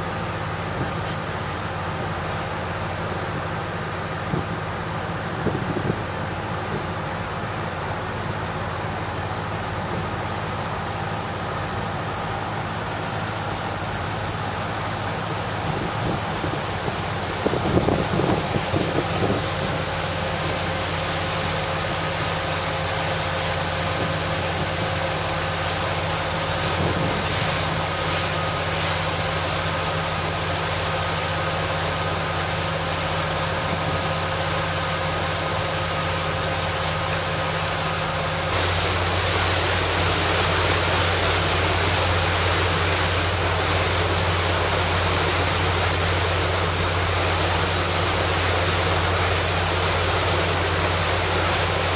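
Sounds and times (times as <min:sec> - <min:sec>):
boat engine droning: 0:00.0 - 0:51.9
rush of wind and water: 0:00.0 - 0:51.9.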